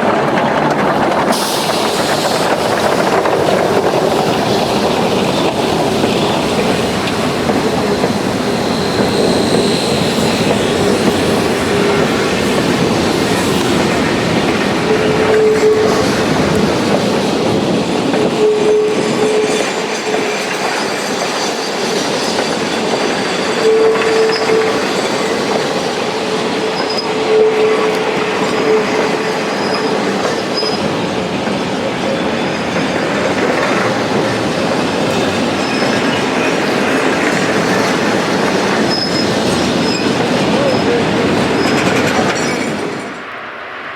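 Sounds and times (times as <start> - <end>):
train wheels rumbling and clattering: 0.0 - 43.9
wheel squeals: 1.3 - 16.7, 18.2 - 31.1, 31.9 - 43.0.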